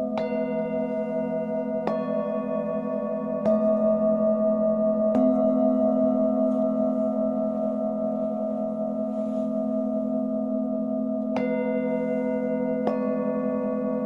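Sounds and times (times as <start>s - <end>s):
singing bowl struck: 0.0s - 14.0s
singing bowls humming: 0.0s - 14.0s.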